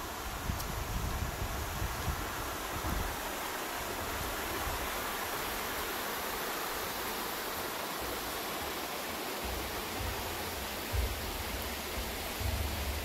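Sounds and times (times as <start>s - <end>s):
stream rushing over rock: 0.0s - 13.0s.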